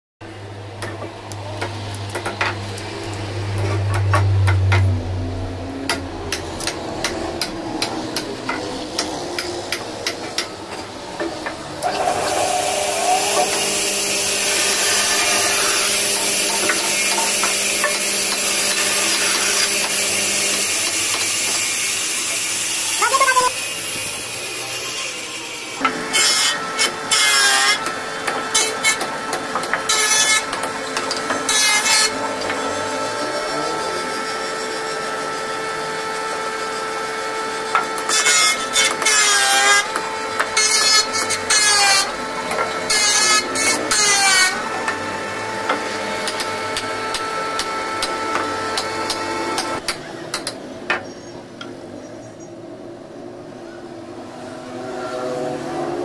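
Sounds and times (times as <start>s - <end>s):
woodworking machine whining: 0.3s - 51.1s
wood rasping through machine: 1.3s - 50.6s.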